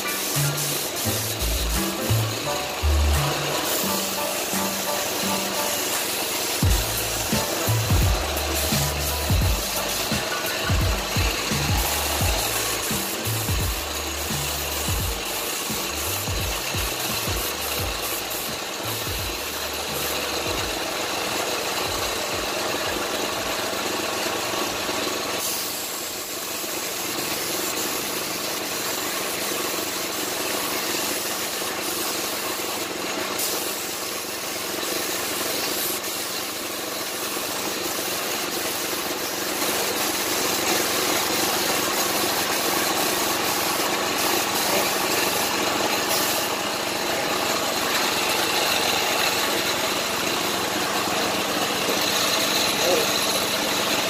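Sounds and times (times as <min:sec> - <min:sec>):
compressed air hissing from spray gun: 0:00.0 - 0:54.0.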